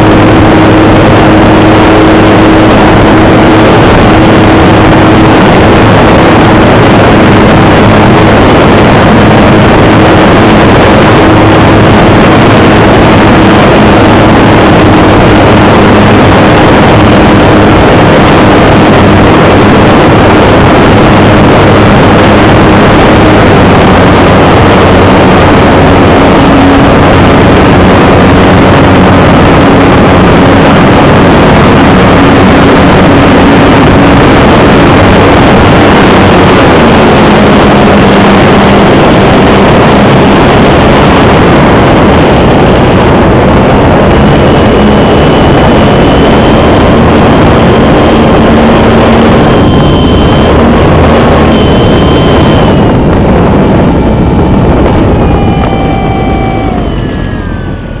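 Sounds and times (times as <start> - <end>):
model airplane motor droning: 0.0 - 58.0.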